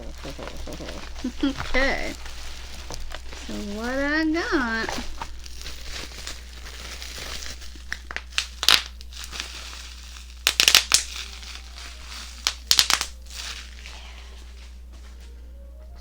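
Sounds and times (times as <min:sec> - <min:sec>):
sharp crackles and pops: 0:00.0 - 0:14.1
plastic packaging crinkling: 0:00.0 - 0:15.2.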